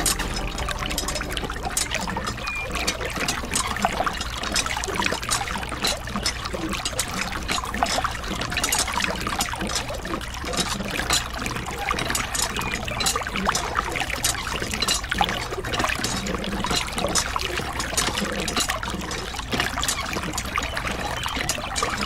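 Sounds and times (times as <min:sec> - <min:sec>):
water trickling into puddle: 0:00.0 - 0:22.0.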